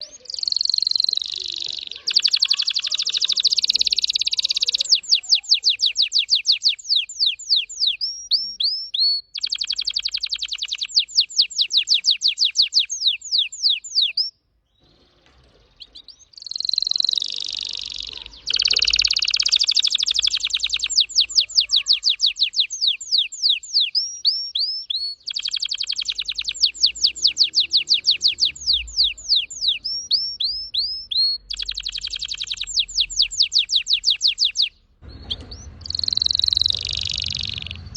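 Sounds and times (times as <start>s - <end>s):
canary singing fast trills: 0.0s - 37.9s.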